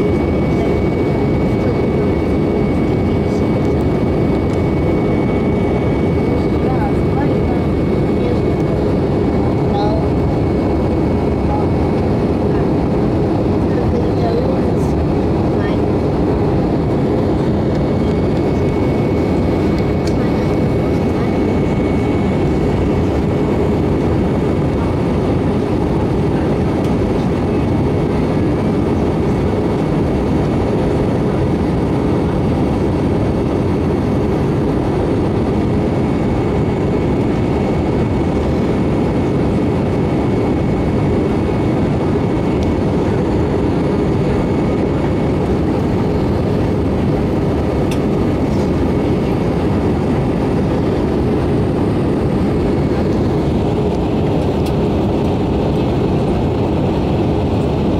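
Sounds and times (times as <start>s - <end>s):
aircraft engine and airflow roar: 0.0s - 57.9s.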